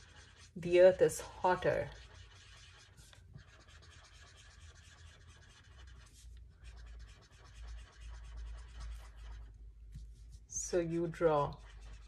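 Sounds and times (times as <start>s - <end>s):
marker scribbling on paper: 0.0s - 12.0s.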